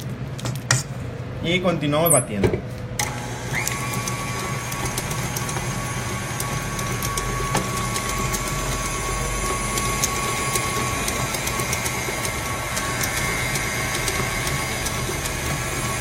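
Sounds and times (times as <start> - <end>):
stand mixer motor humming: 3.0 - 16.0.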